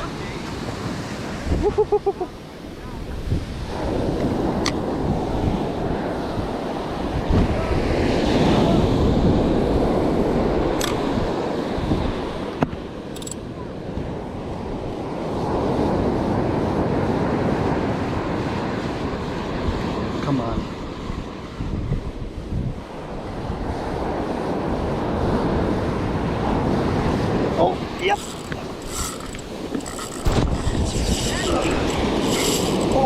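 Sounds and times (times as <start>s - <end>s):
surf washing onto beach: 0.0s - 33.0s
wind buffeting microphone: 0.0s - 33.0s.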